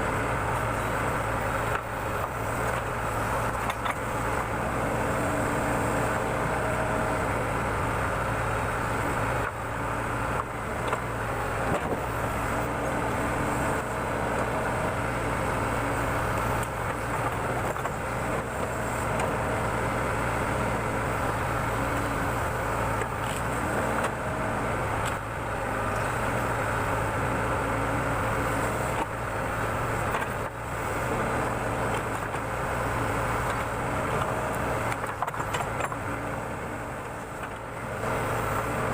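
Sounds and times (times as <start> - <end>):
diesel engine of backhoe running: 0.0 - 38.9.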